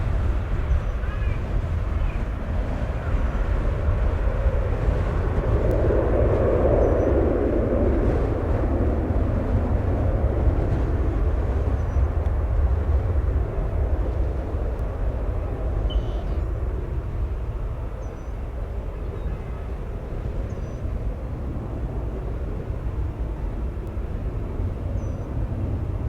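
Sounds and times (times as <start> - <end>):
jet airliner engine noise: 0.0 - 26.0
wind buffeting microphone: 0.0 - 26.0.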